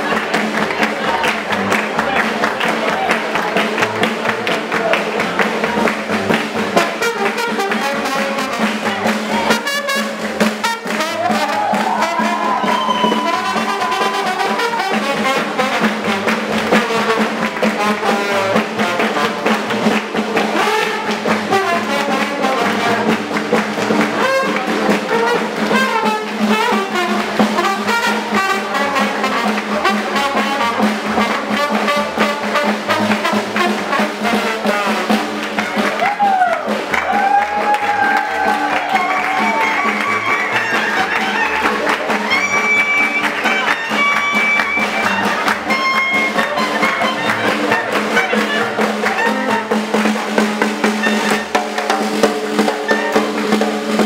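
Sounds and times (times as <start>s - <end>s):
trombone: 0.0s - 37.0s, 38.0s - 54.0s
swing jazz combo playing: 0.0s - 54.0s.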